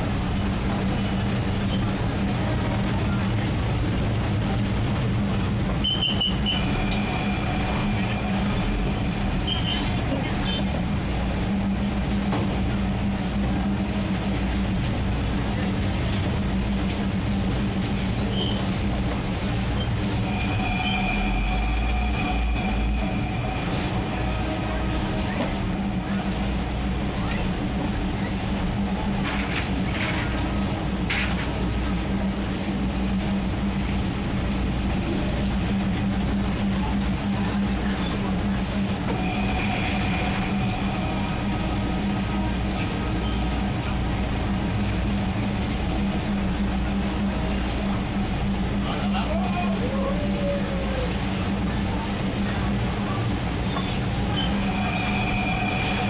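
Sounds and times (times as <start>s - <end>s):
diesel train engine rumbling: 0.0s - 56.0s.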